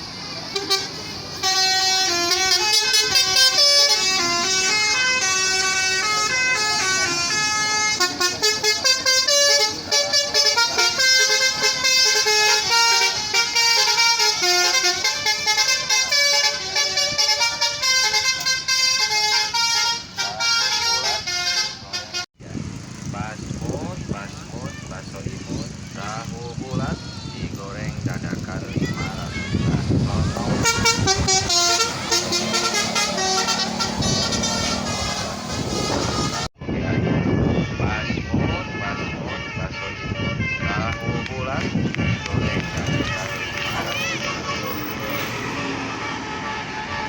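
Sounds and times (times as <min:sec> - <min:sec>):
bus horn playing a tune: 0:00.0 - 0:22.3, 0:27.6 - 0:47.0
staccato horn toots: 0:00.4 - 0:22.3, 0:28.9 - 0:36.5, 0:37.2 - 0:47.0.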